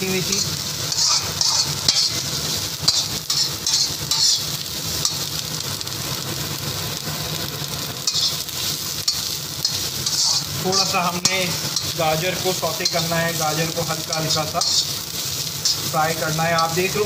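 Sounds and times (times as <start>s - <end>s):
steel spoon scraping wok: 0.0s - 5.5s, 8.0s - 17.0s
vegetables sizzling in a wok: 0.0s - 17.0s.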